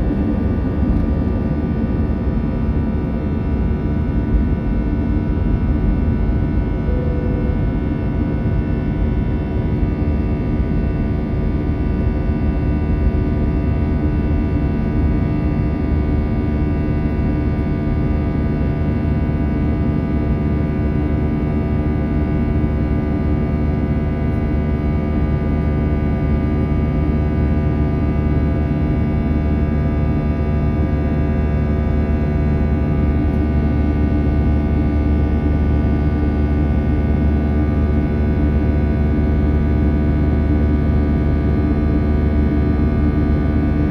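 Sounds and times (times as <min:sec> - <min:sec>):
jet engine drone in cabin: 0:00.0 - 0:43.9.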